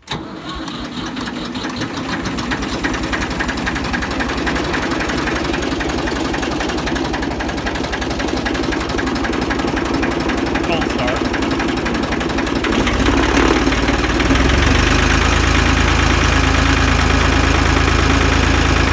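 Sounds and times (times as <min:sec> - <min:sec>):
tractor engine starting and idling: 0:00.0 - 0:18.9.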